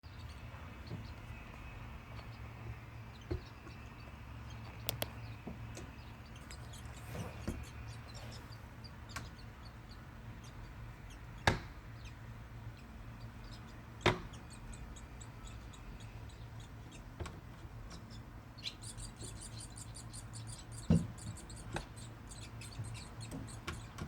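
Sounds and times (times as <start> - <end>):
low steady hum: 0.0 - 24.0
faint bird chirps: 0.1 - 17.1, 18.0 - 24.0.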